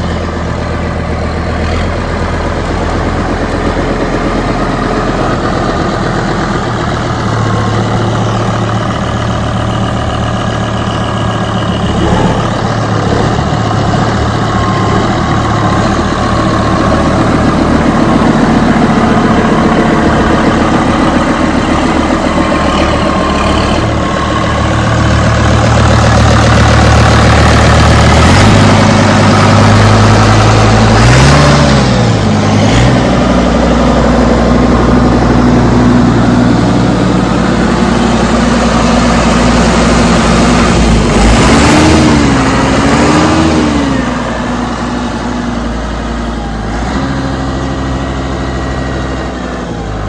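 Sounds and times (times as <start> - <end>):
tractor diesel engine idling: 0.0 - 50.0.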